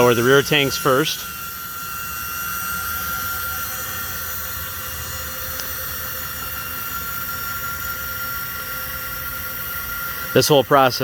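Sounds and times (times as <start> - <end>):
electric actuators whining: 0.0 - 11.0.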